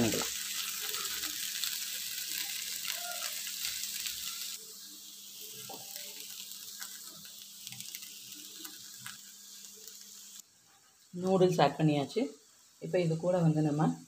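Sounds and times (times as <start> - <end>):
noodles rustling in pan: 0.0 - 11.8
food sizzling in a wok: 0.0 - 14.0.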